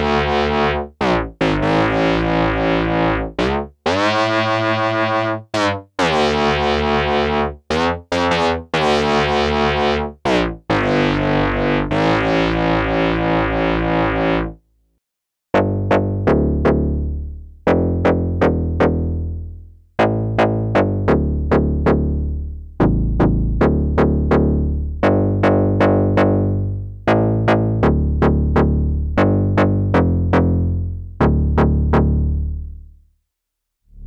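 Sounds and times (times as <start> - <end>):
synthesizer bass riff: 0.0 - 14.6, 15.6 - 32.8.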